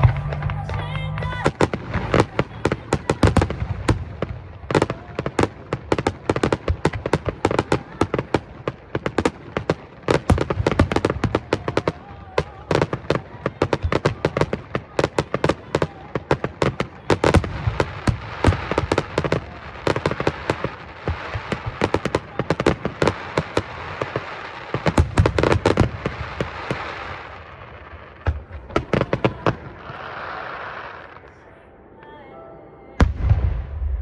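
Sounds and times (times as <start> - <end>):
fireworks bangs: 0.0 - 31.4, 33.0 - 34.0
fireworks crackling: 0.0 - 31.5.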